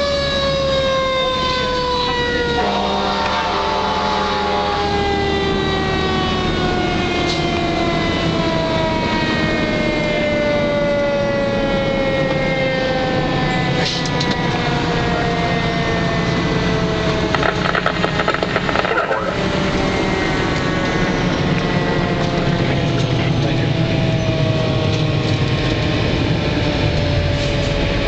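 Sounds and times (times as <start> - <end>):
fire engine siren winding down: 0.0 - 28.0
truck engine running: 1.8 - 28.0.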